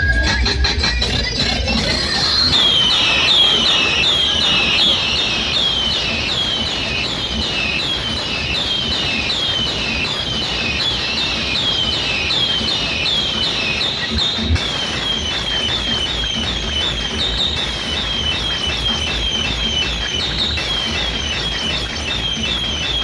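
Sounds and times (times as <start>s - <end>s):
electronic siren through loudspeaker: 0.0s - 23.0s
steady noisy background: 0.0s - 23.0s.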